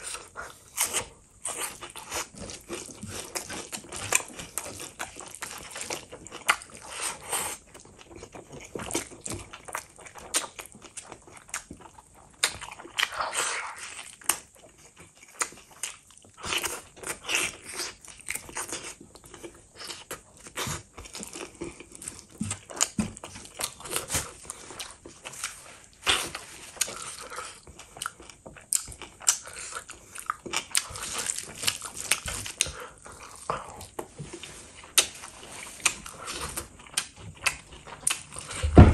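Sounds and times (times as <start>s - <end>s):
wet smacking chewing: 0.0s - 38.9s.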